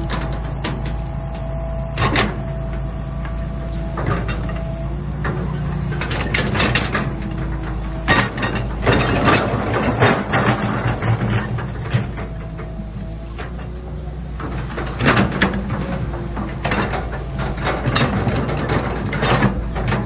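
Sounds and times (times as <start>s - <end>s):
excavator engine hum: 0.0s - 20.0s
metallic clanks and knocks: 0.0s - 20.0s.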